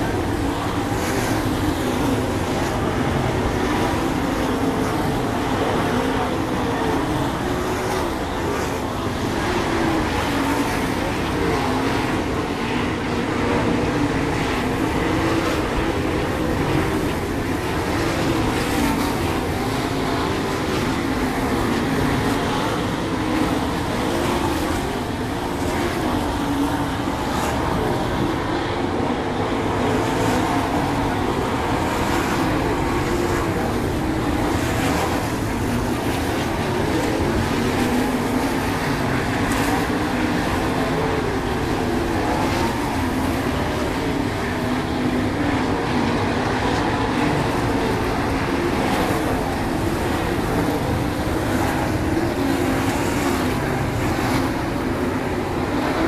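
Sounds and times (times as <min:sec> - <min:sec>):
race car engines at high revs: 0:00.0 - 0:56.0.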